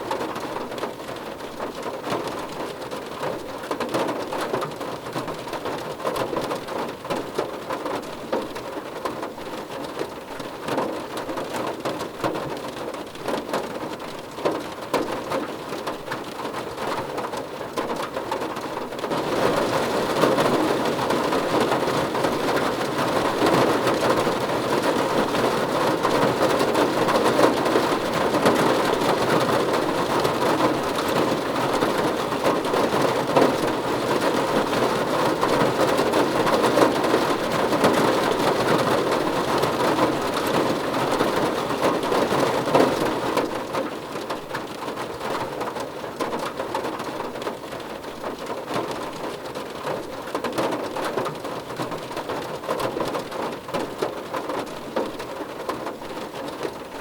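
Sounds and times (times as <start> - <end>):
rain on a car roof: 0.0 - 57.0.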